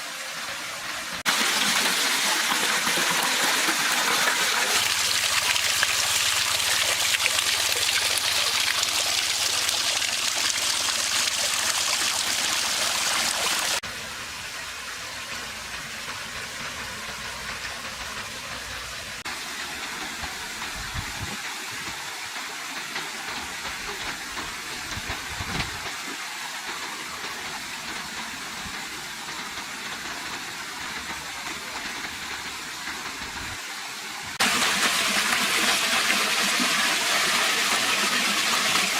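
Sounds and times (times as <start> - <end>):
waterfall water pouring: 0.0 - 38.9.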